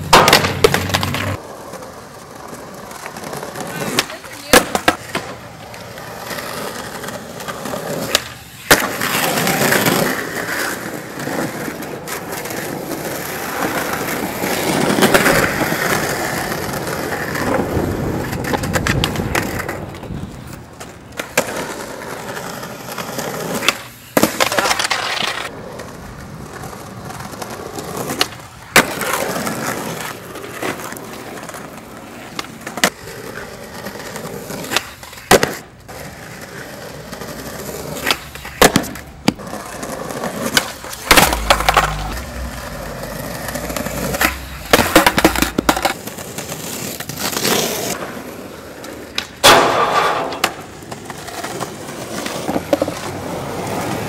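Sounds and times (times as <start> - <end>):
skateboard wooden clacks: 0.0 - 36.4, 37.1 - 48.2, 48.8 - 53.2
skateboard wheels rolling on asphalt: 0.0 - 54.0.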